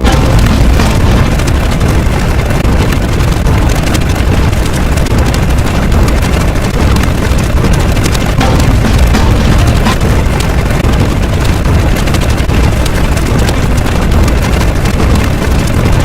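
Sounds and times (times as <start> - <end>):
rumbling roar with crackle: 0.0 - 16.0.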